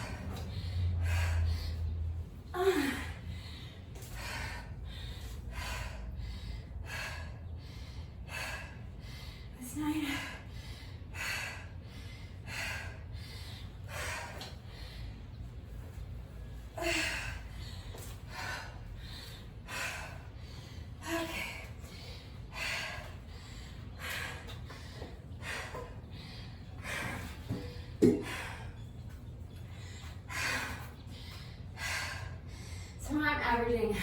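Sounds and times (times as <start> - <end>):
woman breathing hard: 0.0 - 33.2.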